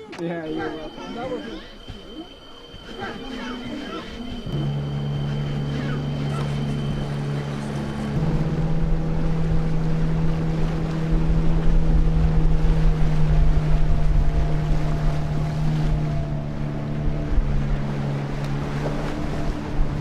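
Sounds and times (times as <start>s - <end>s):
motorboat engine running: 0.2s - 20.0s
wind buffeting microphone: 2.6s - 20.0s.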